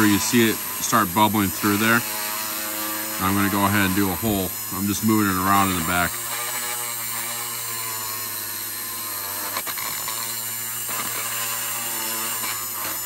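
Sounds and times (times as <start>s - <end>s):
rotary tool motor whine: 0.0s - 13.0s.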